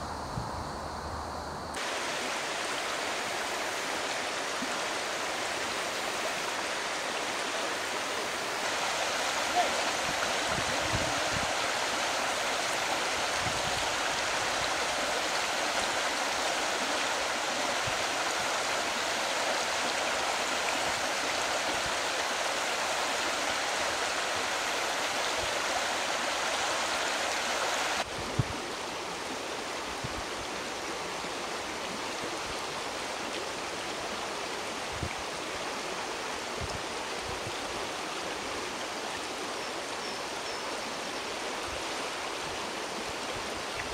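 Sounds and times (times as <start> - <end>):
stream water rushing: 1.7 - 43.9.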